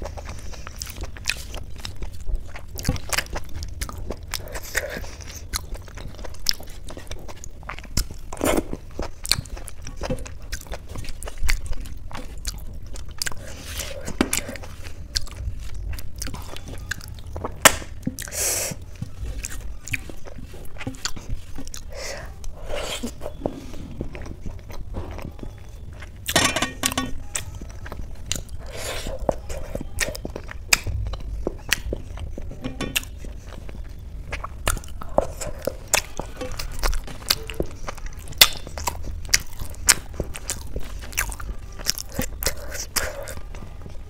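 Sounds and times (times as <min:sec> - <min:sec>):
chewing and mouth clicks: 0:00.0 - 0:44.0.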